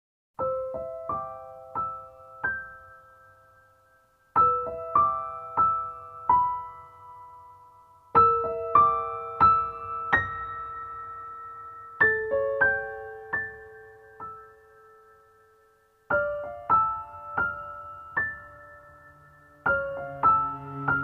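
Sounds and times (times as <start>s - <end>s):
gentle solo piano: 0.4s - 21.0s.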